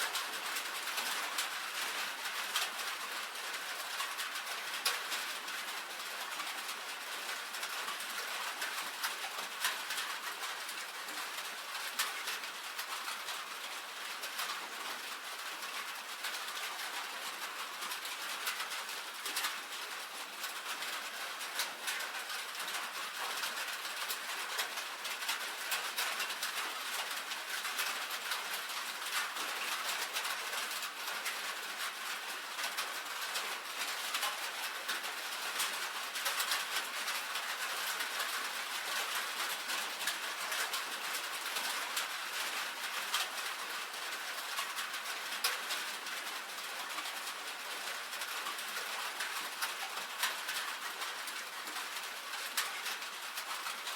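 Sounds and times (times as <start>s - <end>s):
rain on a tin roof: 0.0s - 53.9s.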